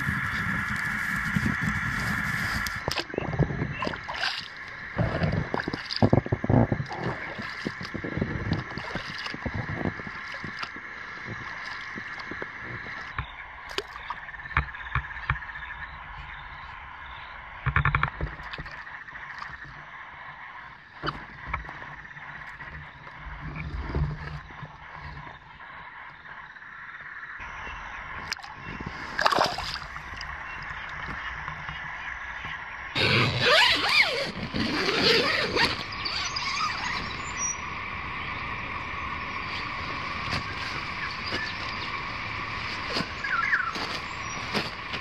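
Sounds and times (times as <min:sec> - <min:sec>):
faint bird calls: 0:00.0 - 0:45.0
faint insect calls: 0:00.0 - 0:45.0
frogs croaking chorus: 0:00.0 - 0:45.0.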